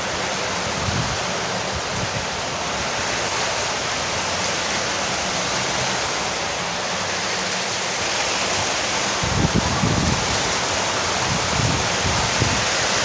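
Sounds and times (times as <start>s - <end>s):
heavy rain on roof: 0.0s - 13.0s.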